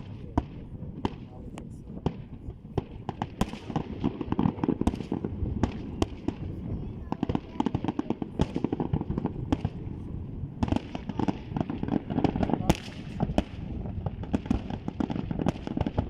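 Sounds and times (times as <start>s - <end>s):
fireworks crackling and popping: 0.0s - 16.0s.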